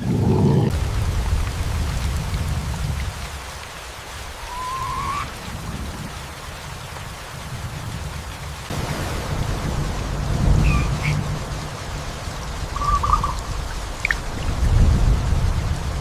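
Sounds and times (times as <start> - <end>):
steady rain falling: 0.7 - 16.0.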